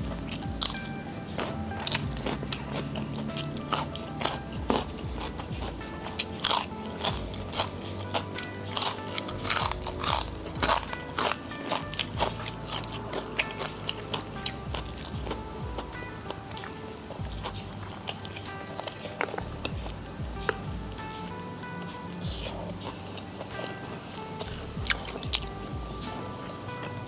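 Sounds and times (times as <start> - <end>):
background music: 0.0 - 27.0
crunching crackers: 0.0 - 27.0.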